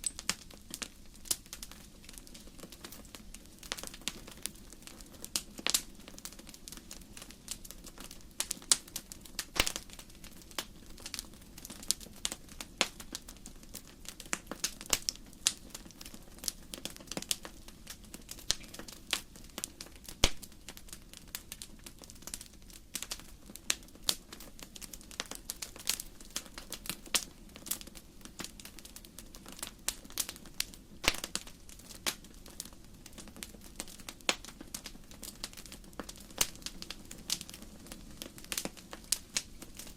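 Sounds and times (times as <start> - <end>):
burning logs popping: 0.0 - 39.9
wood fire crackling: 0.0 - 39.9.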